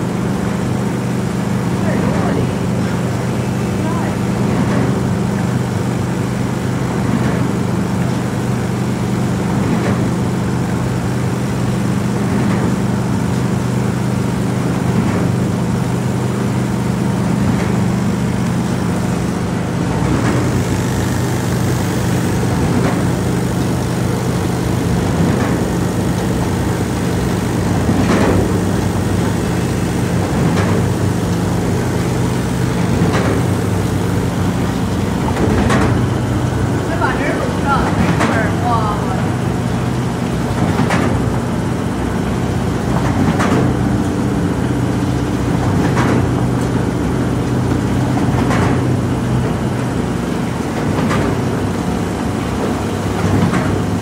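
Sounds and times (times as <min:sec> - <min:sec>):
machine motor hum: 0:00.0 - 0:54.0.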